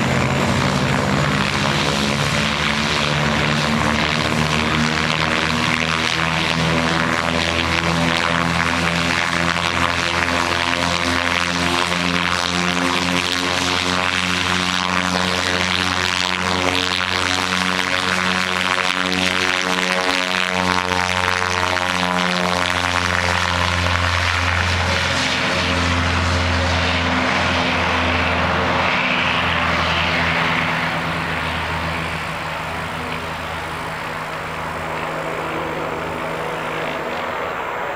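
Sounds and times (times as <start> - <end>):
propeller plane engines drone: 0.0 - 37.9.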